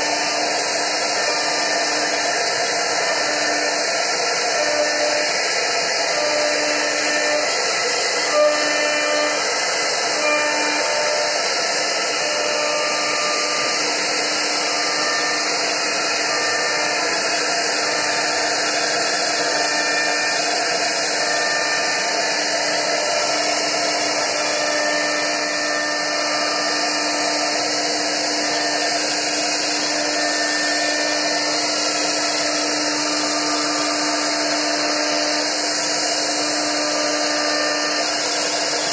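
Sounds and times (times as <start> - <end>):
wood router cutting wood: 0.0 - 38.9.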